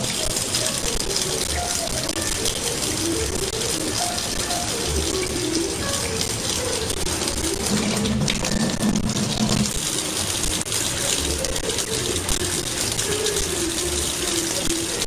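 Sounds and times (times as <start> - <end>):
faucet water into metal sink: 0.0 - 15.0
water splashing: 0.0 - 15.0.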